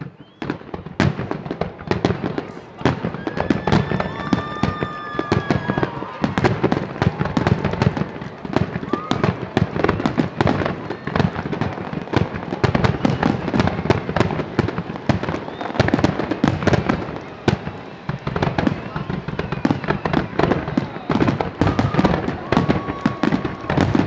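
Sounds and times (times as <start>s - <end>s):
fireworks barrage: 0.0s - 24.0s.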